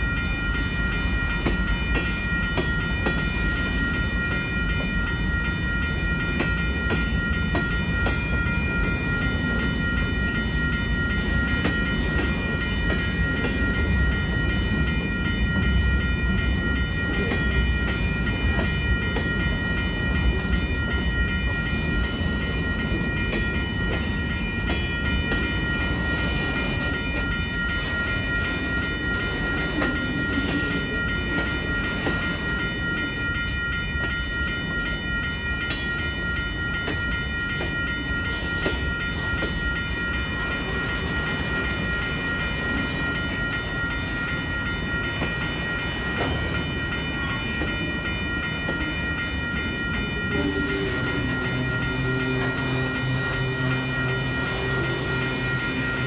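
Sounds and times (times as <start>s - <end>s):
crossing bell ringing: 0.0s - 56.0s
freight train rumbling: 0.0s - 56.0s
train wheels clacking: 0.0s - 56.0s.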